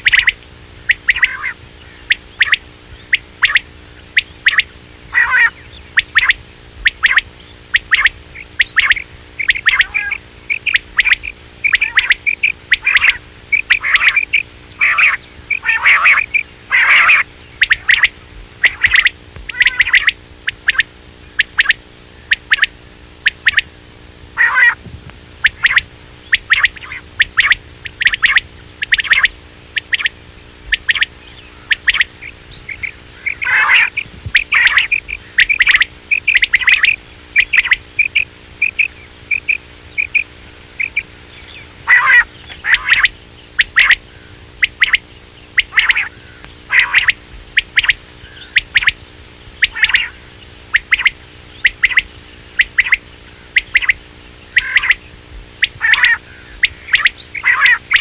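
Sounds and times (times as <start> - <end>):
quail chirping: 0.0 - 58.0.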